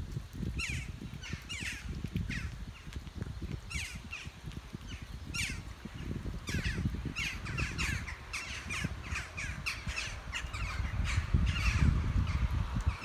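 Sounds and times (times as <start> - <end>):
birds giving harsh falling calls: 0.6 - 2.9, 3.7 - 13.0.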